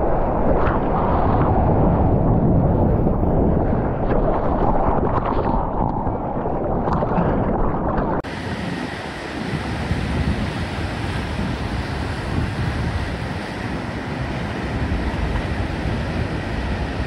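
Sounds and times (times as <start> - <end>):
muffled underwater water rushing: 0.0 - 17.0
surf breaking on a reef: 0.0 - 17.0.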